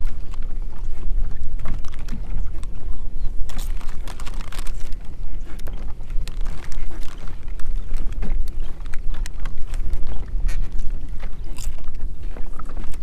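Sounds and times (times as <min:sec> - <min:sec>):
crackles and taps: 0:00.0 - 0:13.0
wind buffeting microphone: 0:00.0 - 0:13.0.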